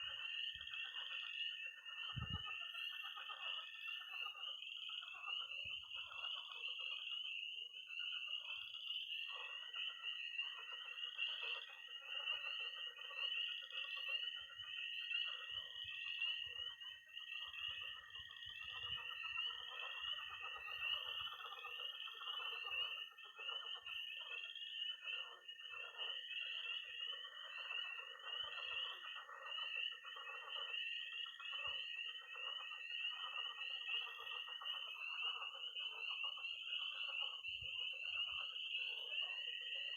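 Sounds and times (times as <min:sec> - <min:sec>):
high-pitched toad trill: 0:00.0 - 0:07.0, 0:09.3 - 0:39.9
pond frogs croaking: 0:00.0 - 0:39.9
tree frogs peeping: 0:00.0 - 0:39.9.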